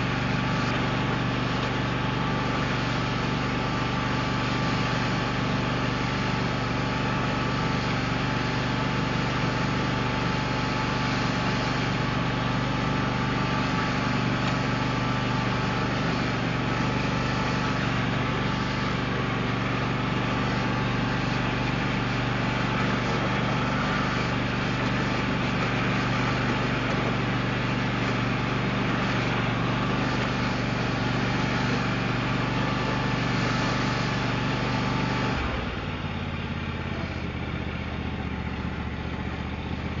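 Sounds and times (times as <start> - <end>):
lawn mower engine running: 0.0 - 40.0.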